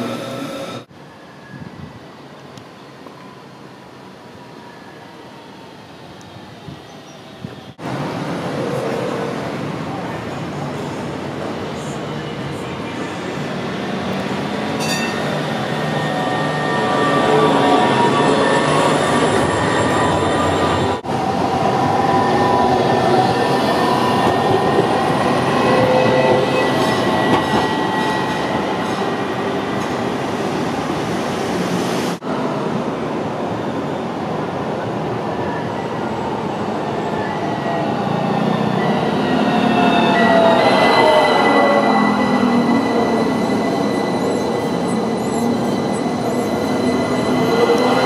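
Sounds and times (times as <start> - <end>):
trams rumbling on rails: 6.2 - 48.0.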